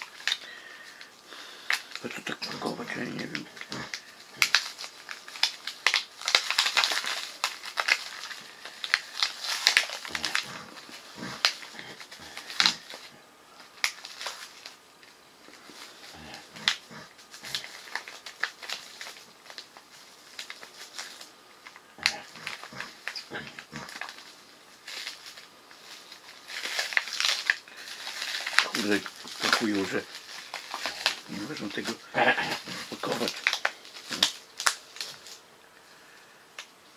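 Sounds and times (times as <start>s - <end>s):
plastic packaging crinkling: 0.0s - 35.5s.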